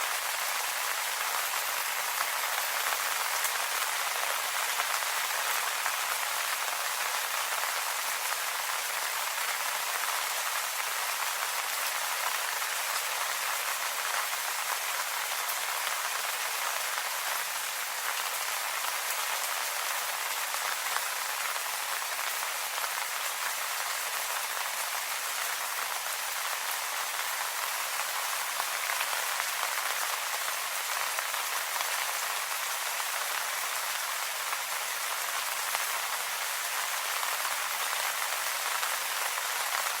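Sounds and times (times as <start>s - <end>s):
rain falling on leaves: 0.0s - 40.0s.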